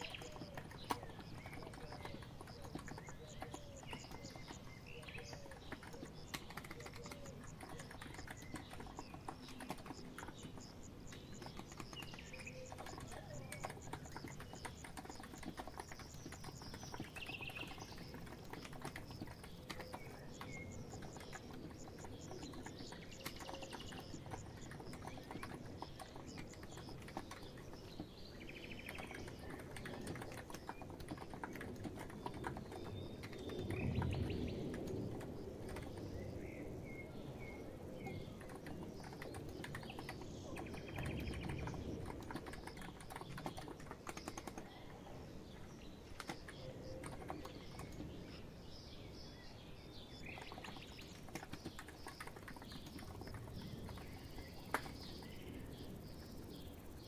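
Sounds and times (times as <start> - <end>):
keyboard typing: 0.0 - 36.3, 38.0 - 48.1, 50.2 - 57.0
birds chirping: 0.0 - 57.0.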